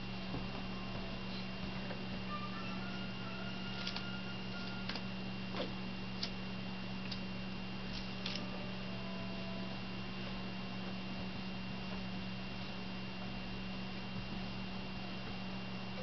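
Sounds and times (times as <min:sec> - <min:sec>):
low electrical hum: 0:00.0 - 0:16.0
thin high whine: 0:00.0 - 0:16.0.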